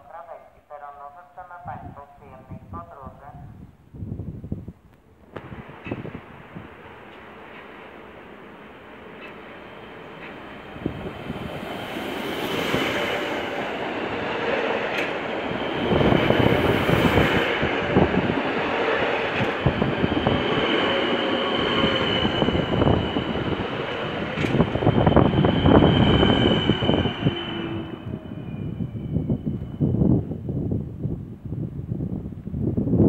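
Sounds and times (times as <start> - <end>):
electric train rumble: 5.2 - 33.0.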